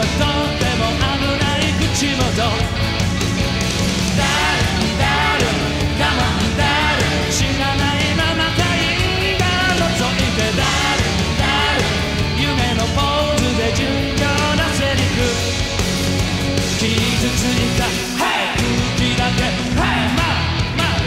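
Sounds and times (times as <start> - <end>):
man singing into a microphone: 0.0 - 2.6, 4.2 - 15.5, 16.7 - 21.0
drums: 0.0 - 21.0
keyboards: 0.0 - 21.0
live rock band playing: 0.0 - 21.0.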